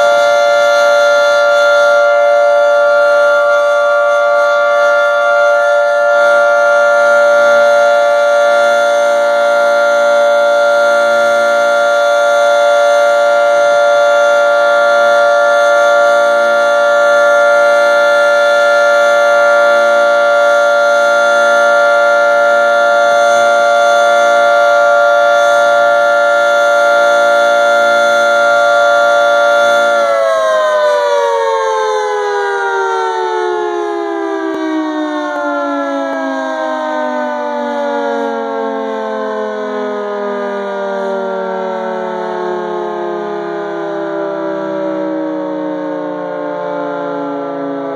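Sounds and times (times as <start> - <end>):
tornado siren steady tone: 0.0 - 47.9.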